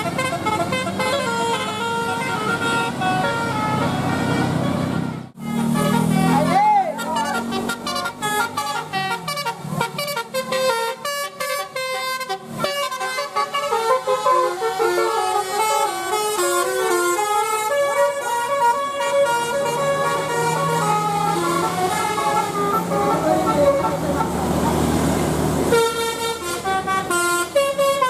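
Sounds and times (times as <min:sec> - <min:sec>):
multi-tone bus air horns playing tune: 0:00.0 - 0:28.0.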